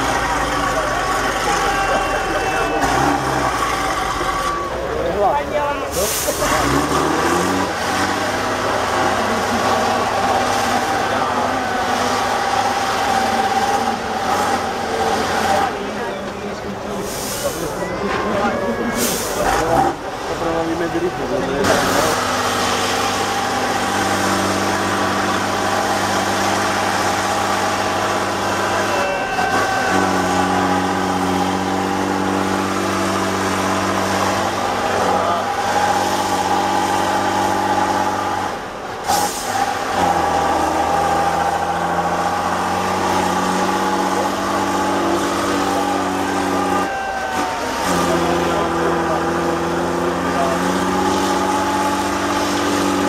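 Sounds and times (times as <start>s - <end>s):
truck diesel engine under load: 0.0s - 53.0s.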